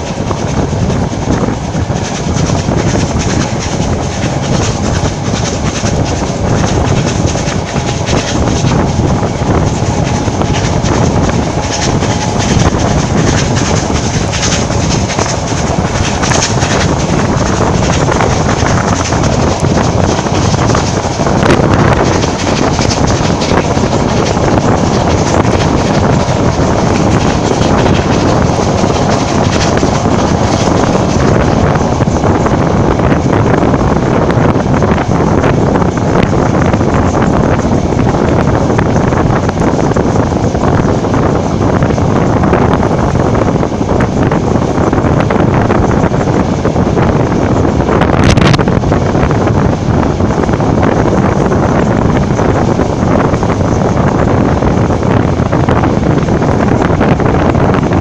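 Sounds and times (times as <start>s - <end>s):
train wheels rumbling on rails: 0.0s - 58.0s
wind buffeting microphone: 0.0s - 58.0s.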